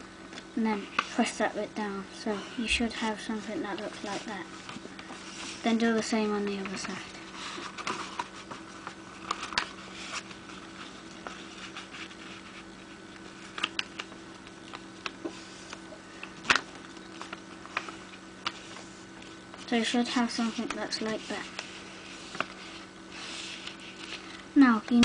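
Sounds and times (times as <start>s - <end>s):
faint steady hum: 0.0s - 25.0s
paper crinkling and folding: 2.3s - 25.0s.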